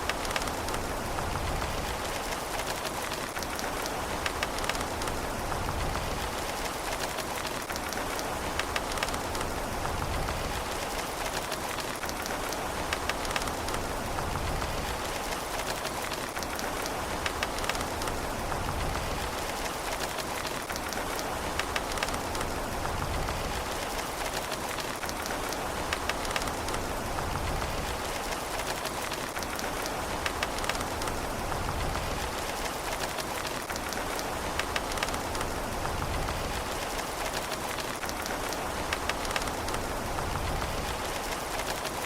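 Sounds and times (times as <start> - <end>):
sharp raindrop ticks: 0.0 - 42.0
steady rain hiss: 0.0 - 42.0.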